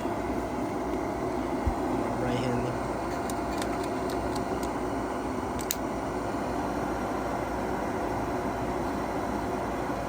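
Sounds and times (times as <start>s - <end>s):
furnace fan motor running: 0.0s - 10.0s.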